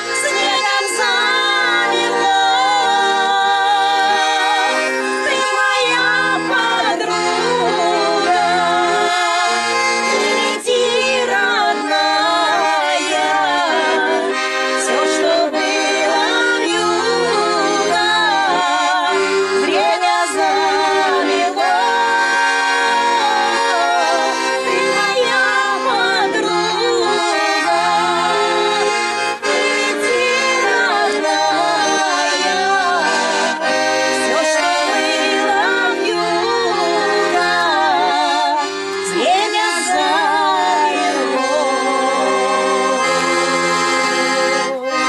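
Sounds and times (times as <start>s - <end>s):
woman singing with vibrato: 0.0s - 44.8s
accordion playing folk song: 0.0s - 45.0s.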